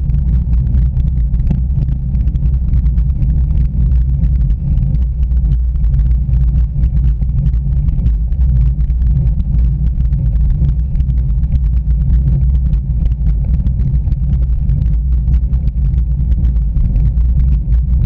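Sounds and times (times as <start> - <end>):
low road vibration rumble: 0.0 - 18.0
small irregular clicks: 0.0 - 18.0
wind on microphone: 0.0 - 18.0.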